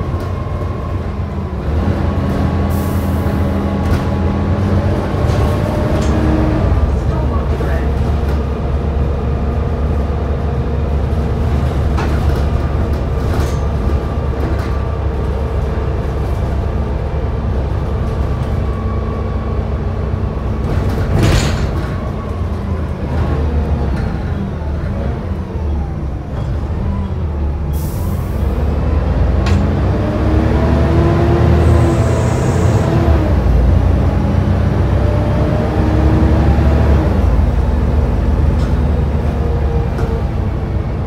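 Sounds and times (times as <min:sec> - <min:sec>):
bus engine drone: 0:00.0 - 0:41.0.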